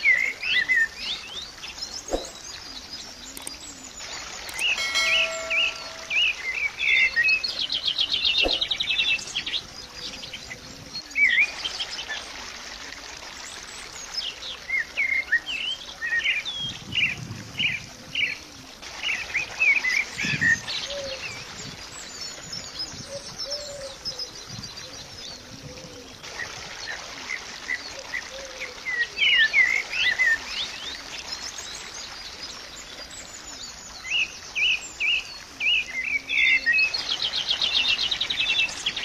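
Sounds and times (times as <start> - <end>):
birds chirping and trilling: 0.0 - 12.2, 13.5 - 39.0.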